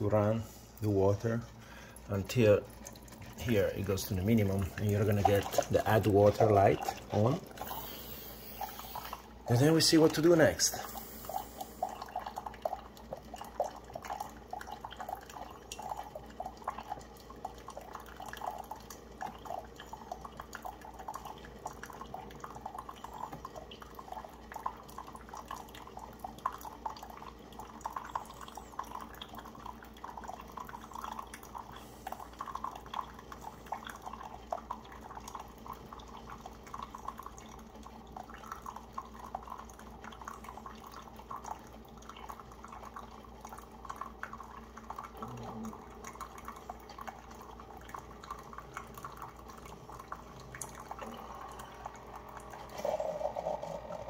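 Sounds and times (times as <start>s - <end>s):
faint steady hum: 0.0s - 54.0s
water trickling into a mug: 0.0s - 54.0s.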